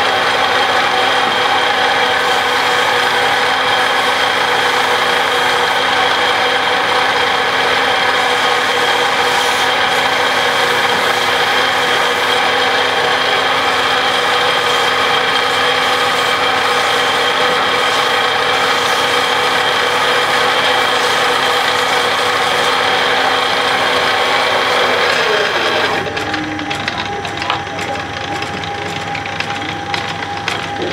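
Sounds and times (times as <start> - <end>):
lathe motor whining: 0.0 - 30.9.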